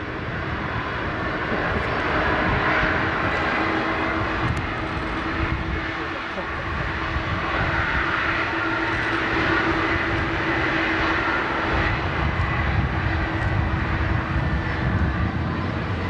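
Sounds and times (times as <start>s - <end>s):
jet engines rushing and whining: 0.0s - 16.0s.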